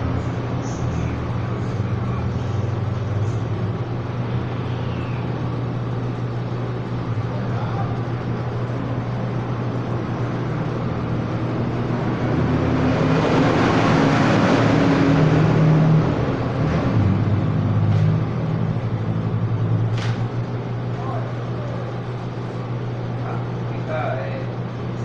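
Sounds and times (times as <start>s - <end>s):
road noise rushing: 0.0s - 23.6s
vehicle engine hum: 0.0s - 25.0s.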